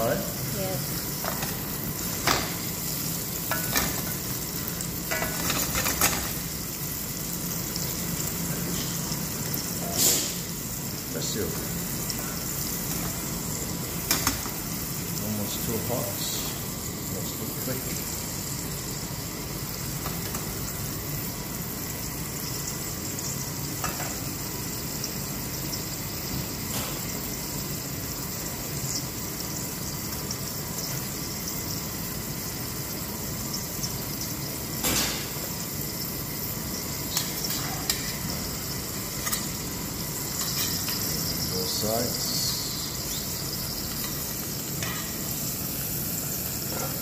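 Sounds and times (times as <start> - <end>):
bacon sizzling in a pan: 0.0 - 47.0.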